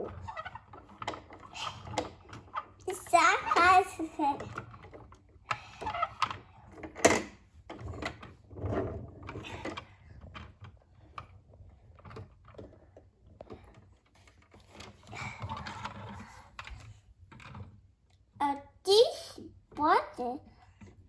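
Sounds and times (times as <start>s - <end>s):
plastic toys clicking and rattling: 0.0s - 17.8s.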